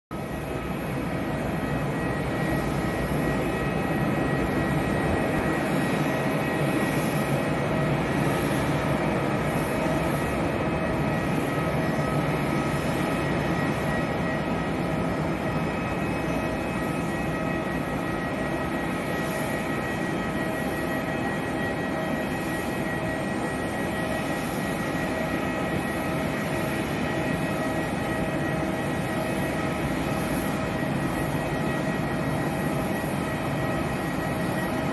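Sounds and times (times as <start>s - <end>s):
jet engines taxiing: 0.2s - 34.9s.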